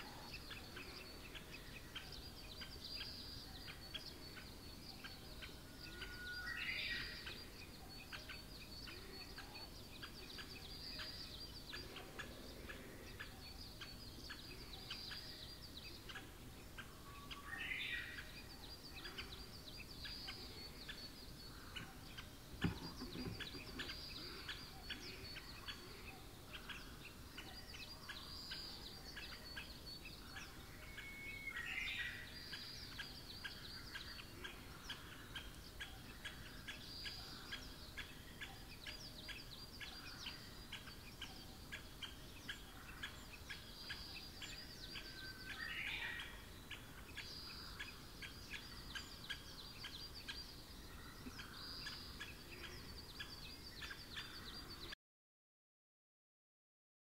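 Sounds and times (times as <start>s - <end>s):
birds twittering: 0.0s - 55.0s
loud bird calls: 0.0s - 55.0s.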